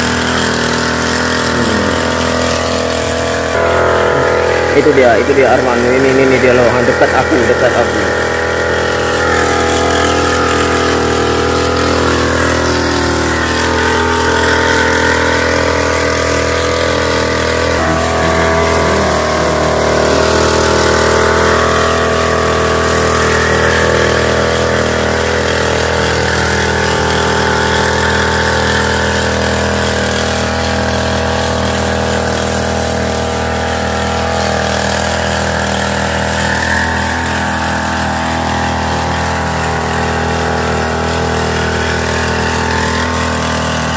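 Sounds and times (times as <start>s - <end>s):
power sprayer engine running: 0.0s - 43.9s.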